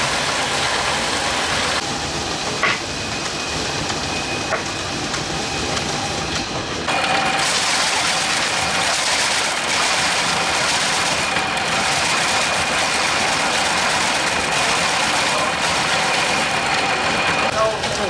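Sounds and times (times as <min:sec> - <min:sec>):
engine-driven machine running: 0:00.0 - 0:18.0.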